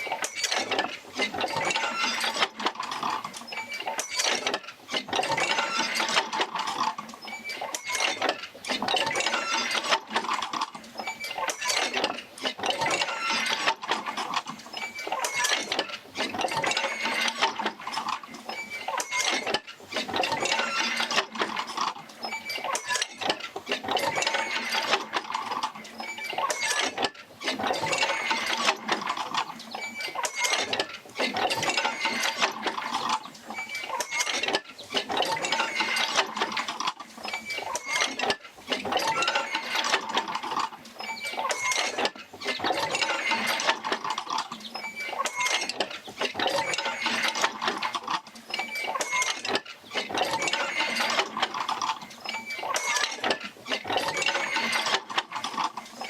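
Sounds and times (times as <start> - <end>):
clanking creaking linkages: 0.0 - 56.0.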